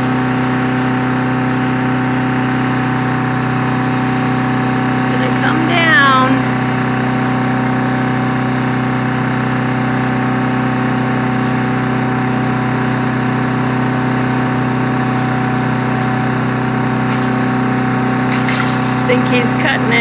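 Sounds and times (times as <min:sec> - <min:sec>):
pole saw engine running: 0:00.0 - 0:20.0.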